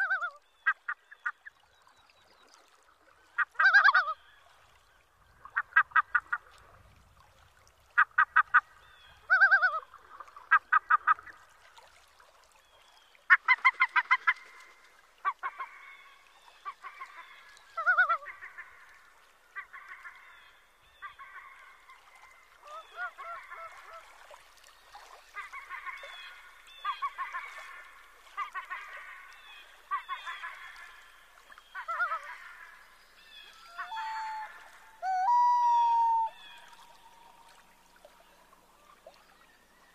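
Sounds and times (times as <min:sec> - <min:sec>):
waterbirds calling: 0:00.0 - 0:39.9.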